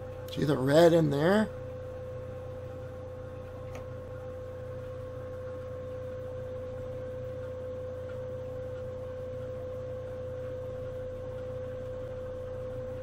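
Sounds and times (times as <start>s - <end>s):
constant even whine: 0.0s - 13.0s
steady background hum: 0.0s - 13.0s.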